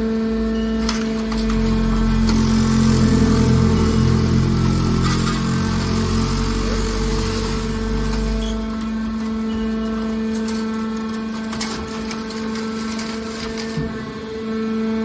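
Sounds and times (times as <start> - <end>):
hydraulic baler motor humming: 0.0 - 15.0.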